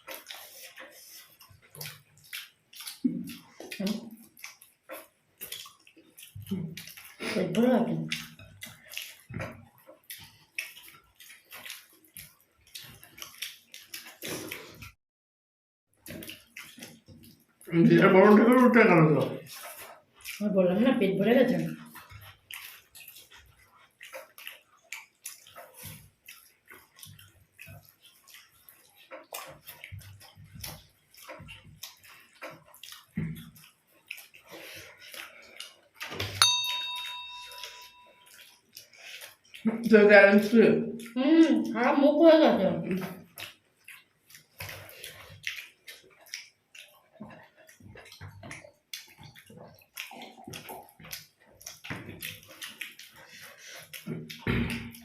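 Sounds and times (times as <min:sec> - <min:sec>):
wet chewing and lip-smacking: 0:00.0 - 0:15.0, 0:15.9 - 0:55.0.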